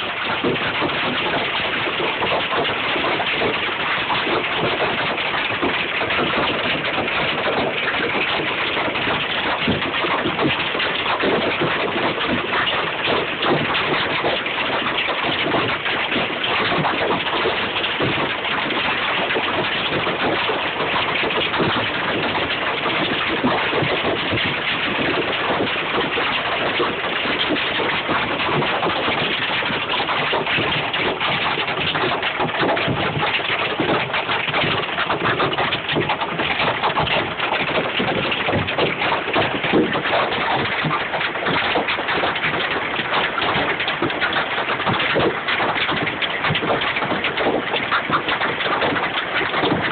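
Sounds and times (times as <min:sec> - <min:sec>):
rain pattering on vehicle roof: 0:00.0 - 0:49.9.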